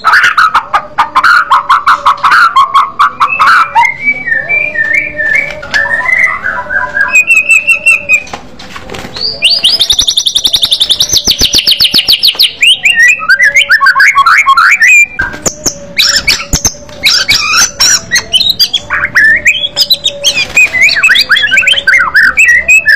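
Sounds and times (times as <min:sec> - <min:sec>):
bird singing whistled phrases: 0:03.2 - 0:08.3, 0:09.2 - 0:22.9.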